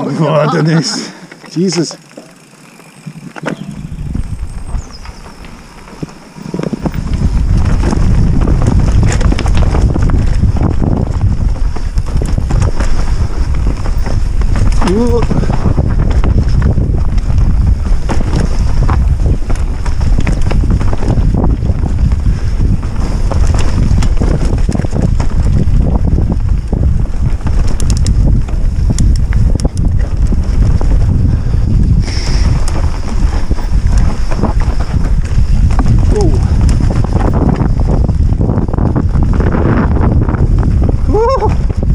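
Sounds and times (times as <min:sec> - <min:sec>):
tyres rumbling on dirt trail: 0:00.0 - 0:41.9
bike clicks and rattles: 0:00.4 - 0:41.9
wind buffeting microphone: 0:00.8 - 0:41.9.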